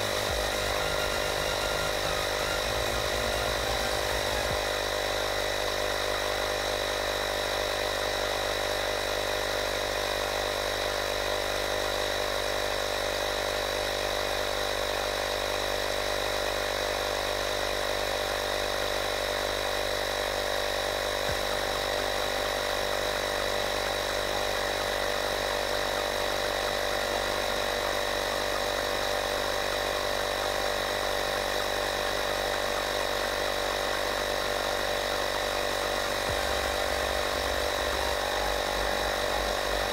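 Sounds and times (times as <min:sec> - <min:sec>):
tyre inflator compressor humming: 0:00.0 - 0:39.9.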